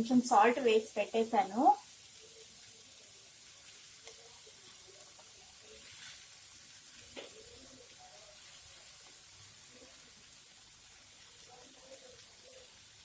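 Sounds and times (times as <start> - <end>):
rice frying in a pan: 0.0 - 13.0.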